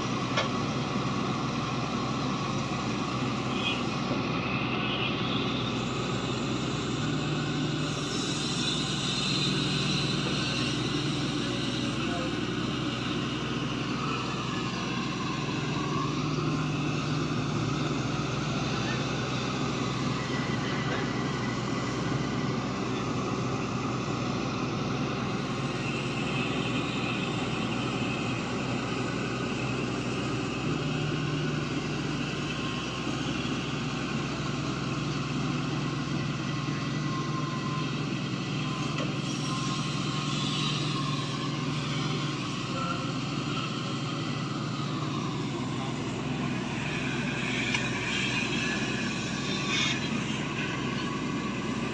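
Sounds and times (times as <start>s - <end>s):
excavator diesel engine running: 0.0s - 51.9s
hydraulic whine: 0.0s - 51.9s.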